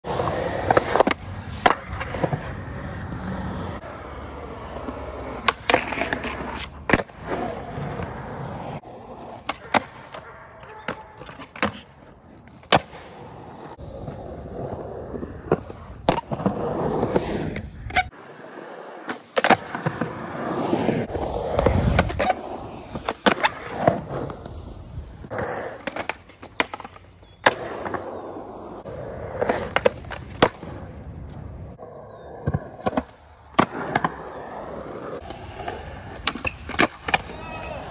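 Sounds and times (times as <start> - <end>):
skateboard wheels rolling on concrete: 0.0 - 37.9.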